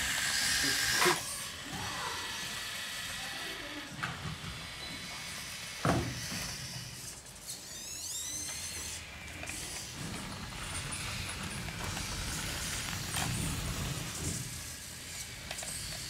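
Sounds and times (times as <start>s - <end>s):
small electric motors whirring: 0.0s - 16.0s.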